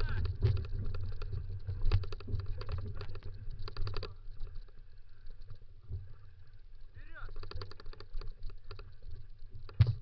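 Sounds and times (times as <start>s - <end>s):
scooter rattling and clicking: 0.0s - 5.6s, 7.2s - 10.0s.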